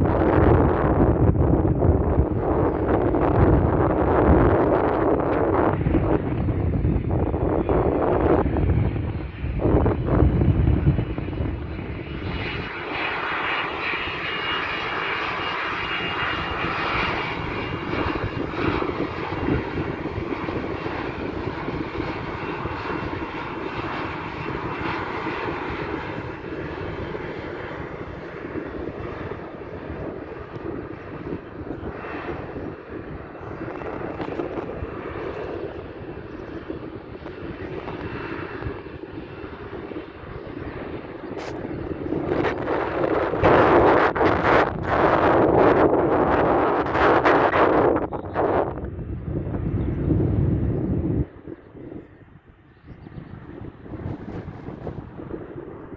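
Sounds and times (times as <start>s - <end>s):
airplane engines rushing: 0.0s - 55.9s.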